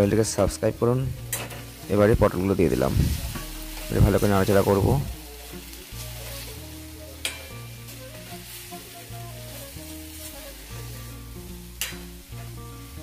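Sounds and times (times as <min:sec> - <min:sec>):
background music: 0:00.0 - 0:13.0
oil sizzling: 0:00.0 - 0:13.0.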